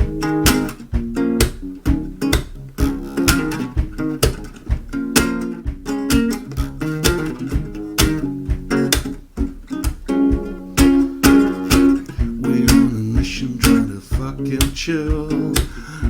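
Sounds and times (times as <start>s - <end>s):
steady beat: 0.0s - 16.0s
strummed guitar: 0.0s - 16.0s.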